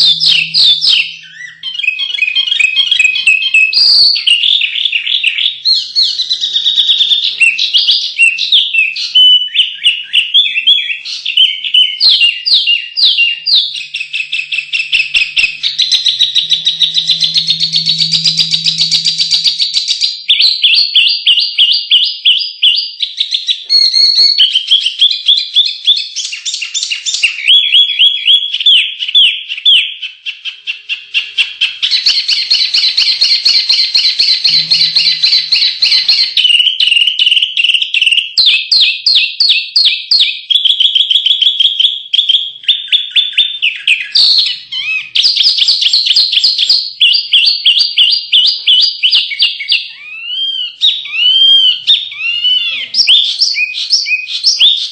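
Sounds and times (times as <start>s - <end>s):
songbirds trilling and chirping: 0.0s - 37.3s, 41.8s - 54.9s.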